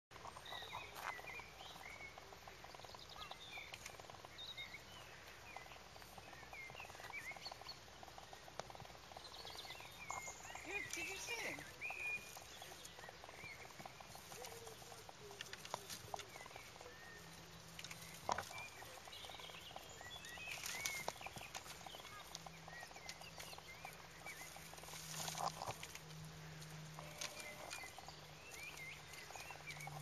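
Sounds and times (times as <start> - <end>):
small birds chirping: 0.1 - 30.0
dry twigs cracking: 5.0 - 30.0.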